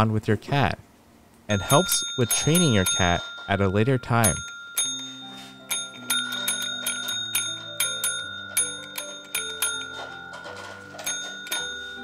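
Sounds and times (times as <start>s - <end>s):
call bells dinging: 1.5s - 12.0s
soft background music: 1.5s - 12.0s.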